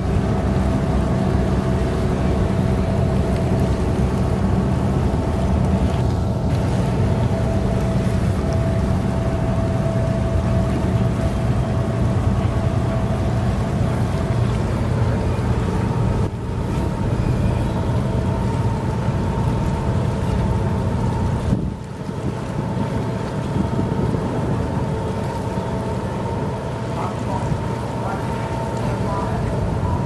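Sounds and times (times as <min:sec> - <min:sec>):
ship low rumble: 0:00.0 - 0:30.0.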